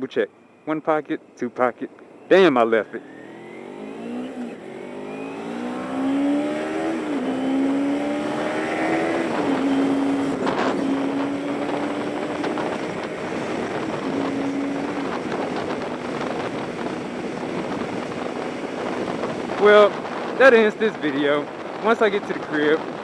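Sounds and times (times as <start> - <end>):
motorcycle engine accelerating: 1.9 - 23.0.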